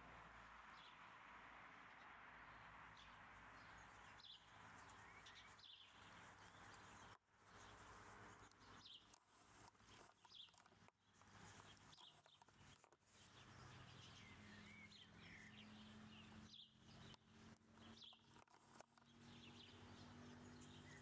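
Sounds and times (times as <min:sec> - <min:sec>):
faint bird chirps: 0:02.9 - 0:21.0.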